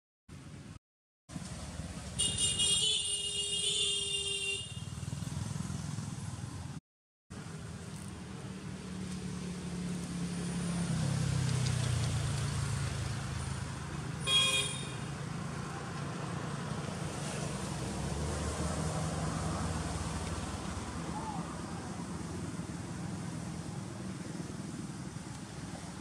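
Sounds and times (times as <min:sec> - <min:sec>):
motor vehicle rumbling: 0:00.3 - 0:03.1, 0:04.7 - 0:26.0.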